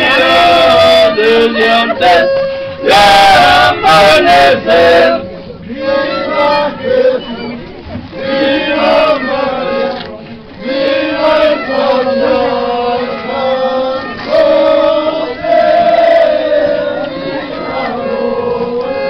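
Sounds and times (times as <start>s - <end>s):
group singing in unison: 0.0s - 19.0s.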